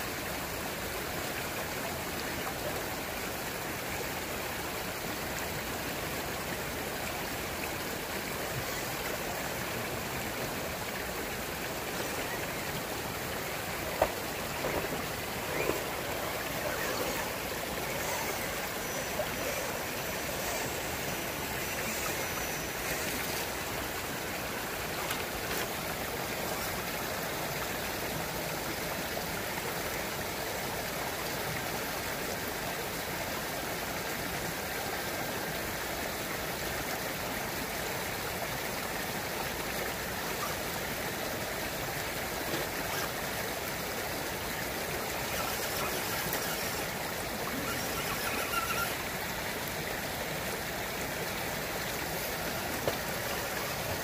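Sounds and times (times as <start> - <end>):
creek flowing over stones: 0.0 - 54.0.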